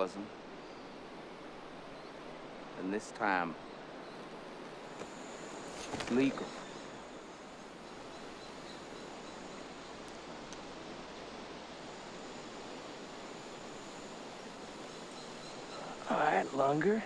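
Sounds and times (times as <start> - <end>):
wind hiss and rustle: 0.0 - 17.0.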